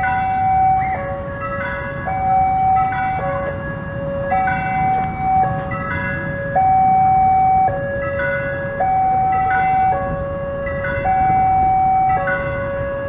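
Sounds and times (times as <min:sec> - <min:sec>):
road traffic rumble: 0:00.0 - 0:13.0
two-tone crossing alarm: 0:00.0 - 0:13.0.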